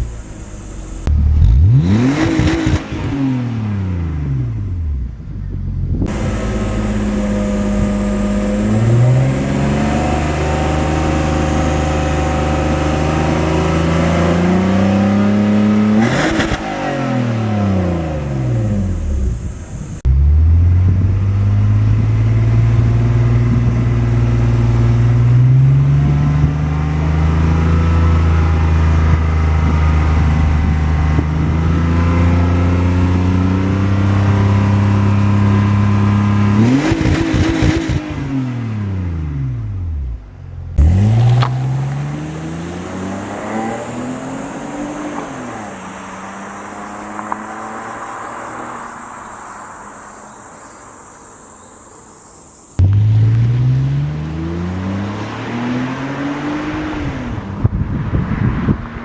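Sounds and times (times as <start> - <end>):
car engine and exhaust under load: 0.0 - 59.0.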